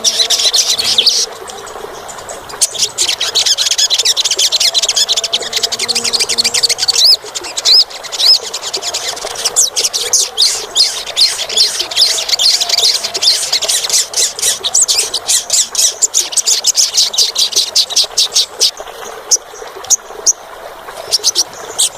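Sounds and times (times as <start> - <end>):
bird twittering song: 0.0 - 21.9.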